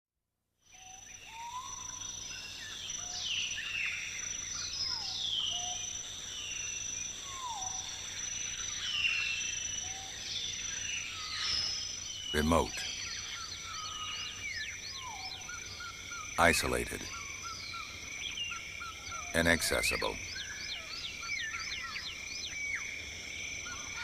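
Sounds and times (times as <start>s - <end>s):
insect drone: 0.6s - 24.0s.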